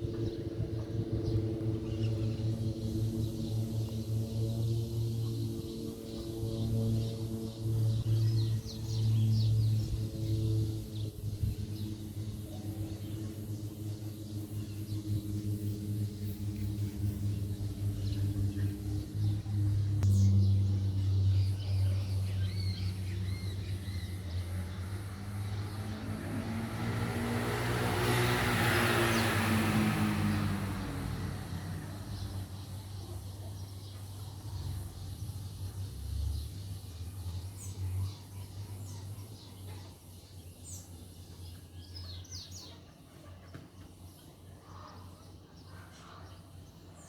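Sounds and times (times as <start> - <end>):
propeller aircraft drone: 0.0 - 47.0
small birds chirping: 0.0 - 47.0.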